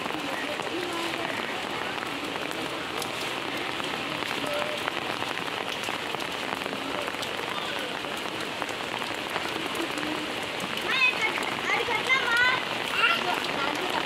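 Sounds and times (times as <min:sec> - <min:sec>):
rain falling on wet ground: 0:00.0 - 0:14.0
raindrops ticking: 0:00.0 - 0:14.0.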